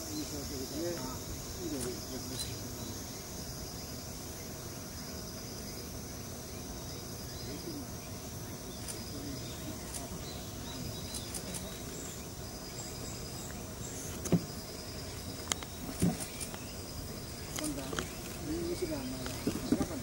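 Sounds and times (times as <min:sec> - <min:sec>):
high insect droning: 0:00.0 - 0:20.0.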